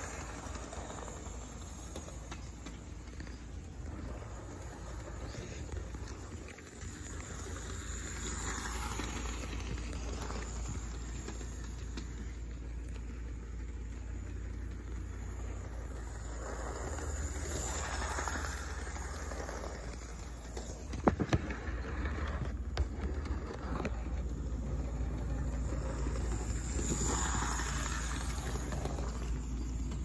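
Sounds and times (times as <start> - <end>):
model train motor whirring: 0.0 - 30.0.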